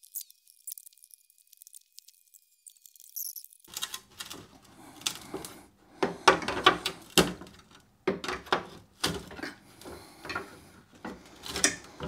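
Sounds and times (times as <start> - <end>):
metallic clicks and scrapes: 0.0 - 5.6, 6.4 - 12.0.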